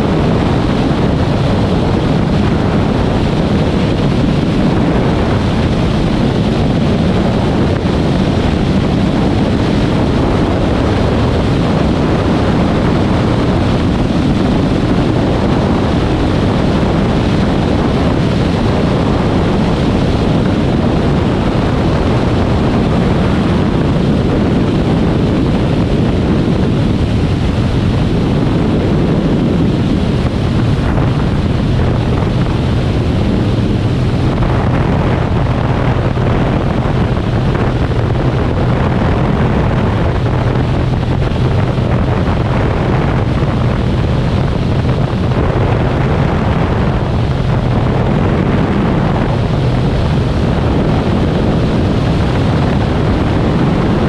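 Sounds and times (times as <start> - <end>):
propeller plane engine drone: 0.0 - 54.0
wind rush on microphone: 0.0 - 54.0.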